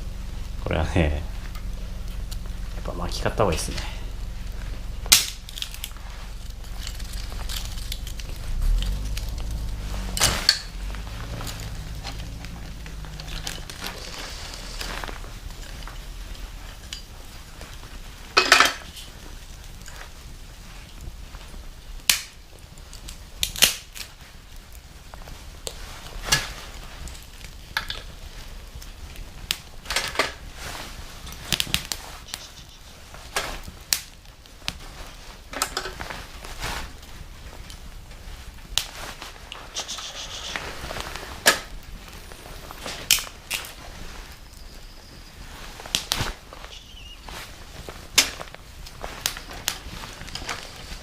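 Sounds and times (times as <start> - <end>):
burning wood crackling and popping: 0.0 - 51.0.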